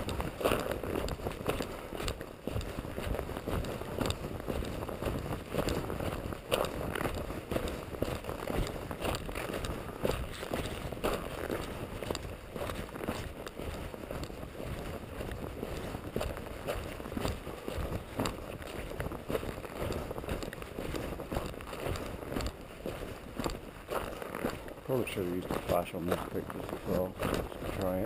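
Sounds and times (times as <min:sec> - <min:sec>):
footsteps crunching in snow: 0:00.0 - 0:28.0.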